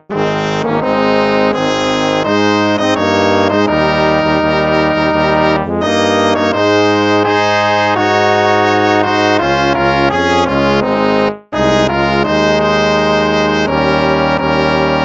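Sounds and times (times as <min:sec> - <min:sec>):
brass hymn in held chords: 0:00.0 - 0:15.0.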